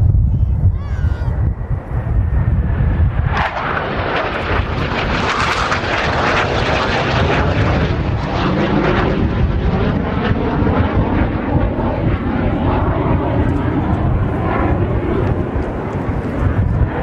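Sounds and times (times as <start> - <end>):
jet fighter engine: 1.0 - 17.0.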